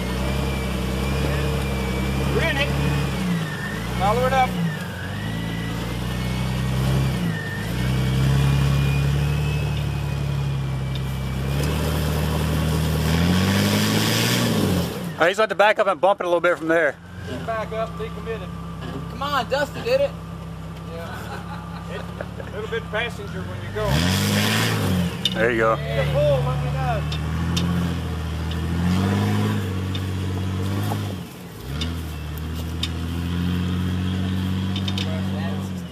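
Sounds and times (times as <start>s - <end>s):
off-road vehicle engine under load: 0.0s - 35.9s.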